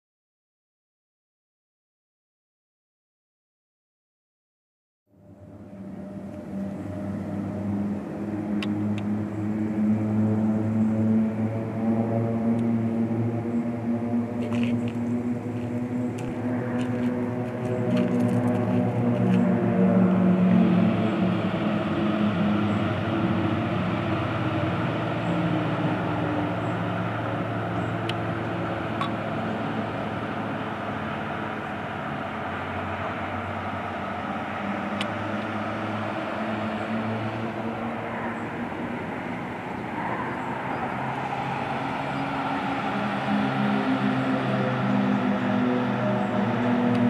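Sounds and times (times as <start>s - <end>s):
distant propeller aircraft drone: 5.1s - 47.0s.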